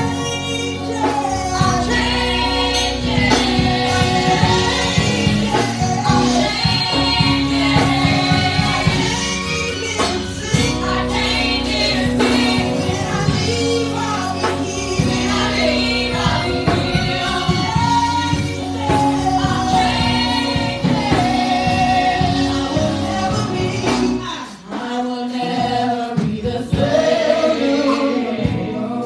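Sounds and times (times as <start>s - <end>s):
gospel choir singing: 0.0s - 29.0s
instrumental accompaniment: 0.0s - 29.0s.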